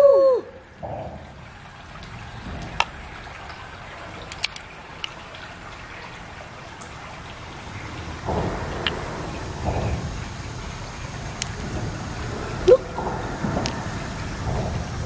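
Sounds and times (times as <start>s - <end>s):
wet trickling and squelching: 0.6s - 15.0s.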